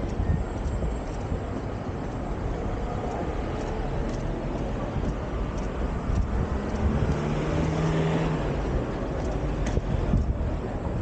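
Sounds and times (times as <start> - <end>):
road traffic passing: 0.0 - 11.0
vehicle engine droning: 0.0 - 11.0.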